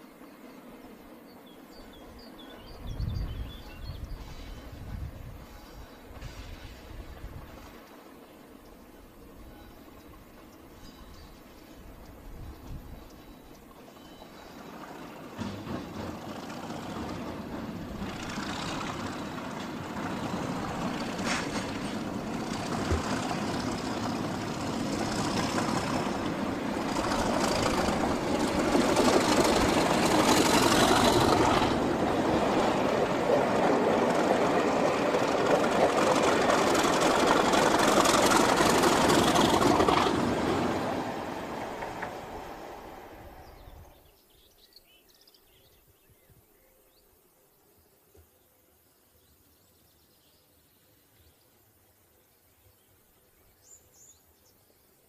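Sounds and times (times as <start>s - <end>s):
diesel locomotive passing: 0.0s - 44.6s.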